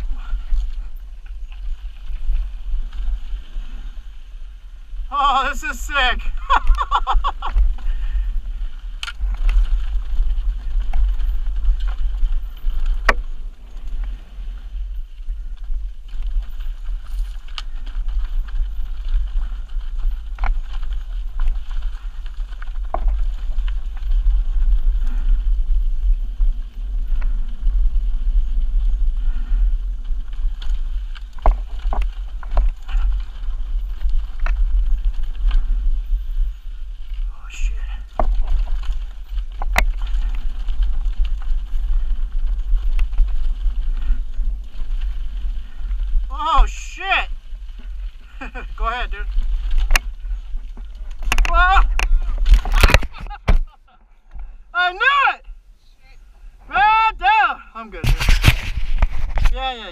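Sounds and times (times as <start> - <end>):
bike rattling over bumps: 0.0 - 5.2, 5.8 - 54.8
wind rumbling on microphone: 0.0 - 59.9
tyres crunching over rocks: 5.1 - 55.3.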